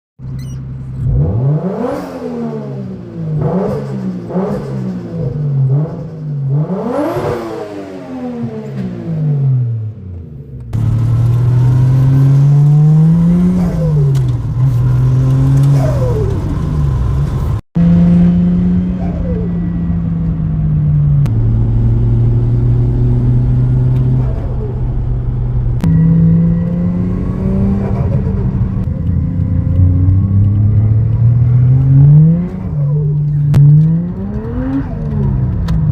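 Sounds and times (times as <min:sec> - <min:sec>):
engine revving: 0:01.0 - 0:09.9, 0:10.7 - 0:35.9.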